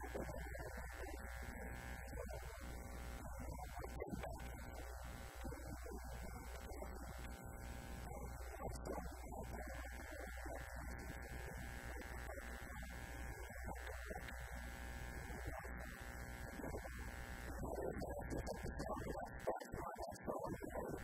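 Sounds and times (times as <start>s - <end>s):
electrical buzz and hum: 0.0s - 21.0s.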